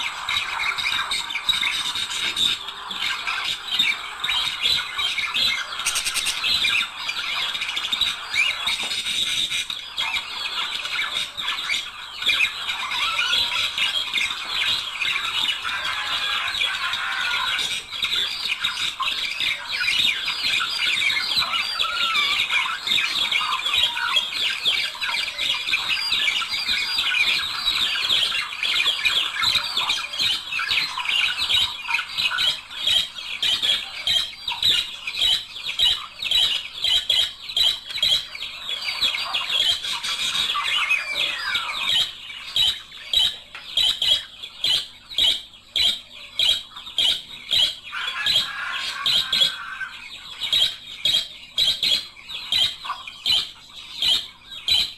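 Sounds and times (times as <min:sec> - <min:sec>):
budgerigars chattering and chirping: 0:00.0 - 0:54.9.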